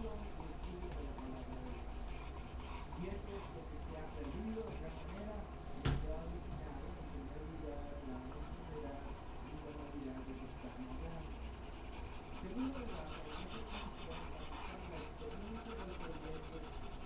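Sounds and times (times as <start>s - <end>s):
pencil scratching on paper: 0.0s - 5.3s, 8.3s - 17.0s.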